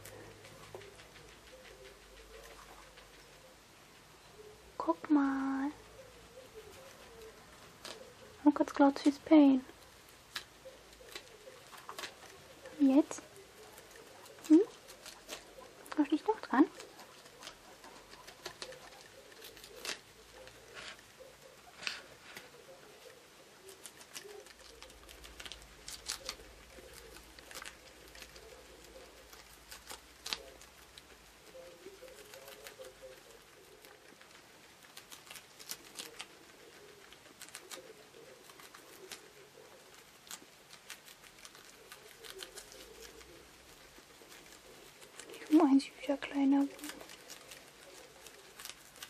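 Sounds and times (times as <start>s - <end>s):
guinea pig chewing lettuce: 0.0s - 49.0s.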